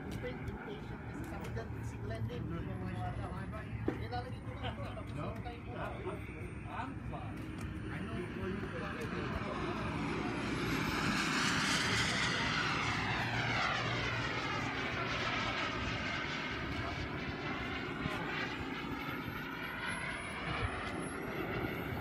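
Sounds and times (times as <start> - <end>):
model jet engine whine: 0.0 - 22.0.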